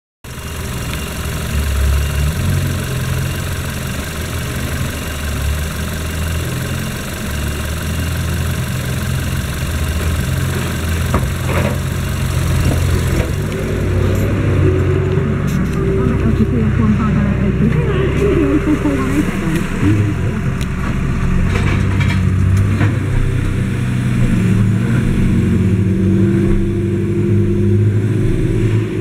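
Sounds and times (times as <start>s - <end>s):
car engine idling: 0.2s - 29.0s.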